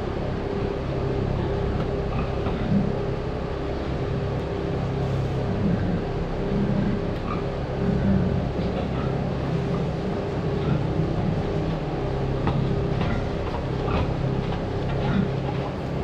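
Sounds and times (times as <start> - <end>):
electric pump motor humming: 0.0 - 16.0.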